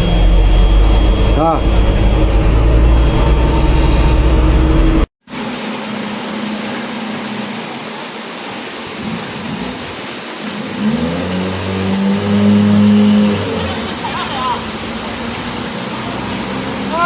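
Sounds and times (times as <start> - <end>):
vehicle engine: 0.0 - 7.7, 10.6 - 17.0
floodwater rushing: 0.0 - 17.0.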